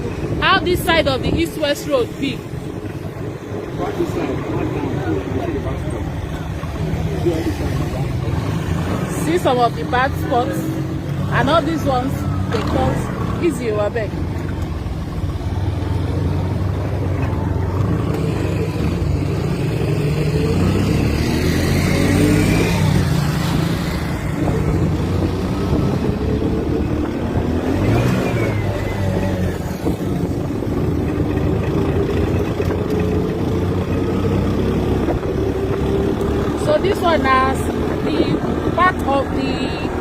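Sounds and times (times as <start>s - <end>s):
vehicle engine on rough road: 0.0s - 40.0s.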